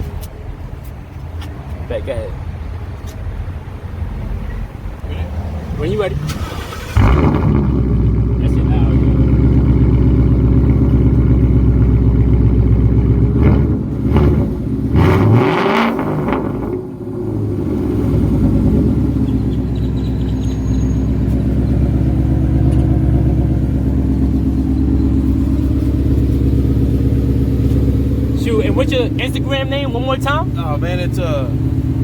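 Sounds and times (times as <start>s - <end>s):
car engine idling: 0.0s - 32.0s
car engine revving: 5.0s - 32.0s.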